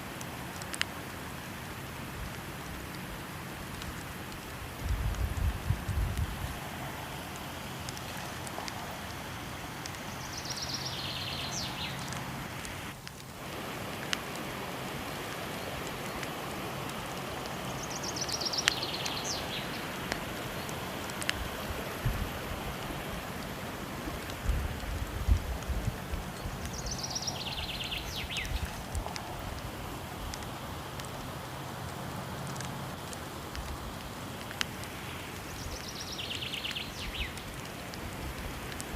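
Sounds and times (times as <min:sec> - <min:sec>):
falling water rushing: 0:00.0 - 0:38.9
wood fire crackling: 0:00.0 - 0:38.9.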